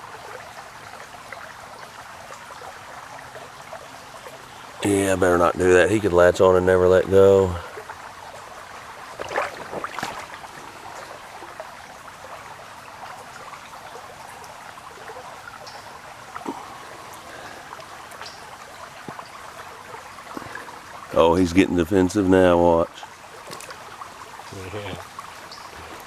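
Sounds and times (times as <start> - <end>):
water trickling over rocks: 0.0 - 26.0.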